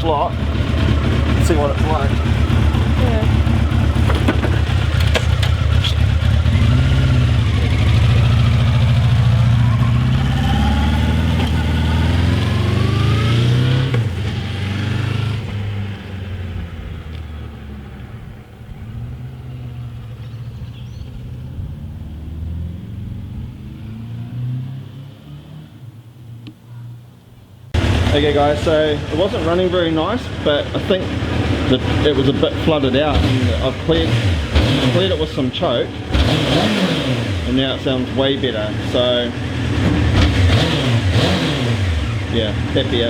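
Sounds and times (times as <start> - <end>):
motorcycle engine revving through gears: 0.0 - 25.9, 27.8 - 43.0.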